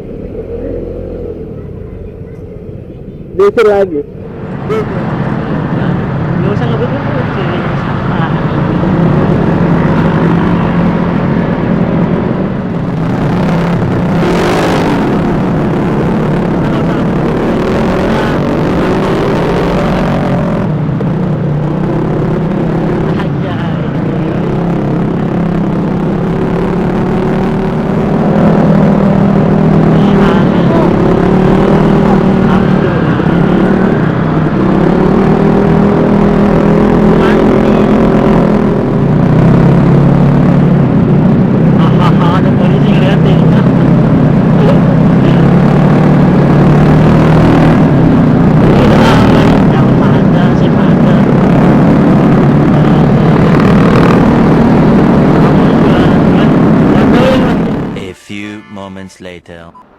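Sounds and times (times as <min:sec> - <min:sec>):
scooter engine running: 0:00.0 - 0:03.4, 0:04.0 - 0:58.0.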